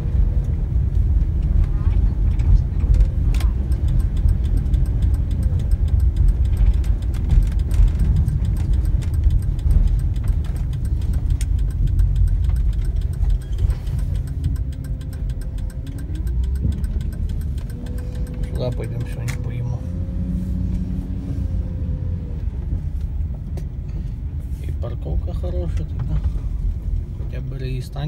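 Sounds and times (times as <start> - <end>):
truck engine and tyres rumbling: 0.0 - 28.0.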